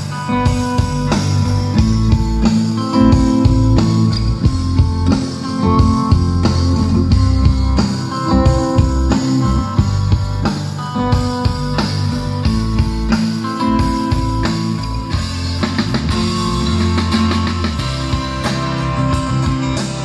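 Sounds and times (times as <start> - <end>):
guitar music with drums and bass: 0.0 - 20.0.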